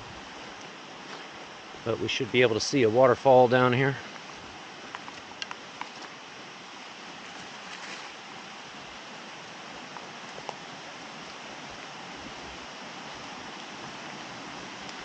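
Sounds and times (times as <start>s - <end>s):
stream and waterfall rushing: 0.0s - 15.0s.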